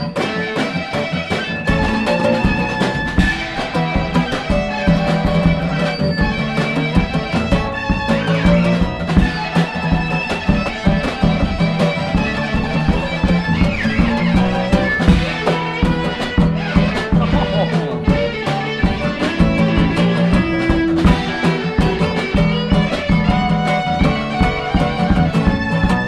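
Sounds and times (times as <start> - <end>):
acoustic guitar: 0.0 - 26.0
drums: 0.0 - 26.0
electric violin melody: 0.0 - 26.0.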